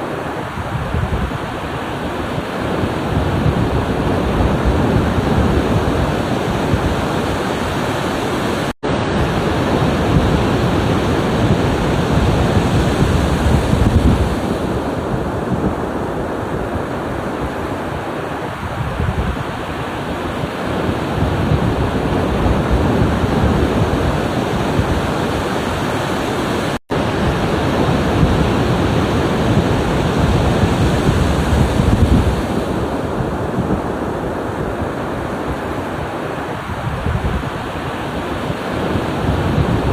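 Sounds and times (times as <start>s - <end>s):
ocean surf washing in: 0.0s - 39.9s.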